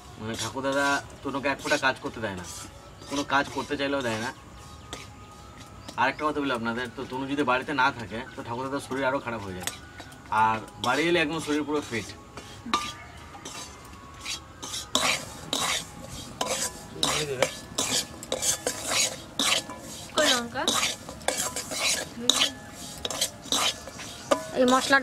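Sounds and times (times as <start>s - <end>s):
metal spatula scraping pan: 0.2s - 6.0s, 8.8s - 25.0s.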